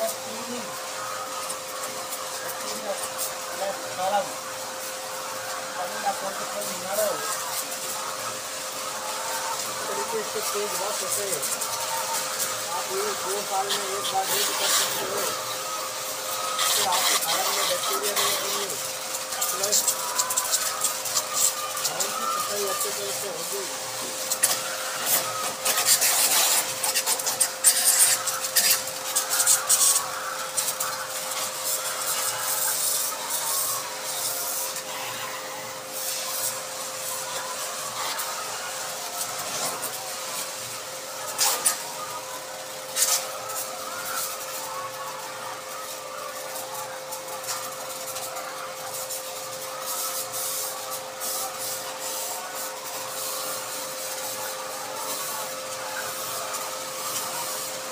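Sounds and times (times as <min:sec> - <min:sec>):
hissing pressure spray: 0:00.0 - 0:57.9
pump motor hum: 0:00.0 - 0:57.9.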